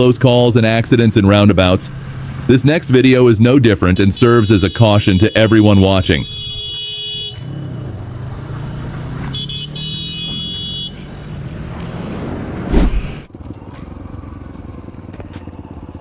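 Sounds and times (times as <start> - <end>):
road noise with faint ticks: 0.0 - 4.1, 6.3 - 16.0
motorcycle engine running: 0.0 - 4.4, 6.2 - 16.0.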